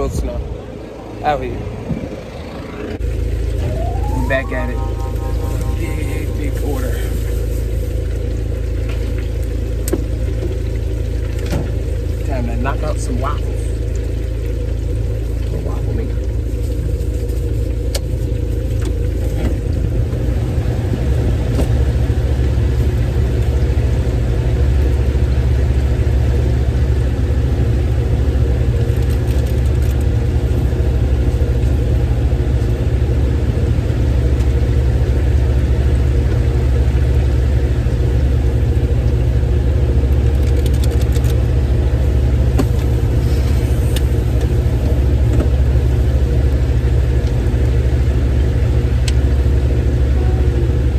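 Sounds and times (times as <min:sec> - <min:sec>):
motor running rumble: 0:07.0 - 0:50.9.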